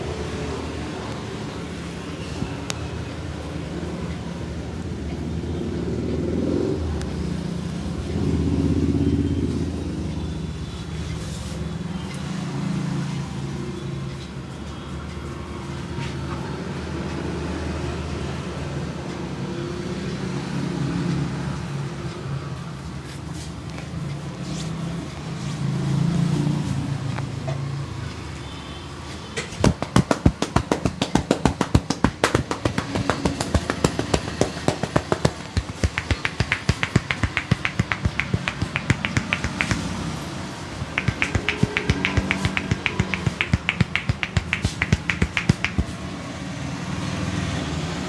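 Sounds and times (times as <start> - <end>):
vehicle engines rumbling: 0.0 - 28.4, 29.0 - 48.0.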